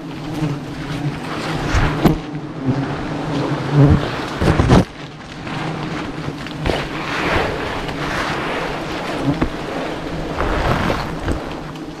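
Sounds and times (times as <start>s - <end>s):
bees buzzing: 0.0s - 12.0s
steady rushing noise: 0.0s - 12.0s.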